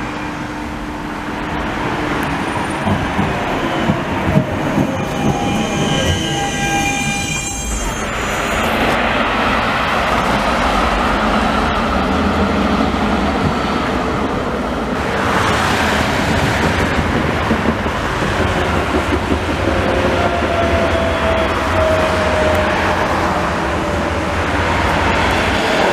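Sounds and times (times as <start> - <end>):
tram rumble and wheel noise: 0.0 - 25.9.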